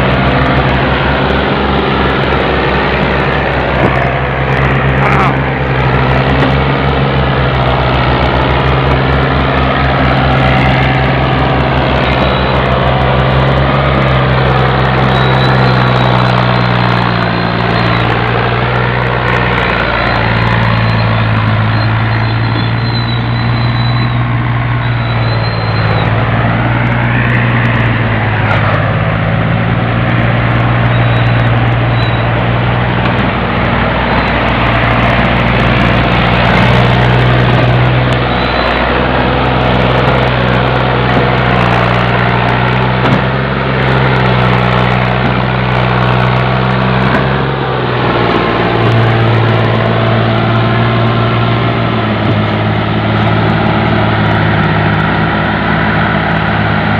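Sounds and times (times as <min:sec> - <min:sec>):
tractor diesel engine labouring: 0:00.0 - 0:56.9.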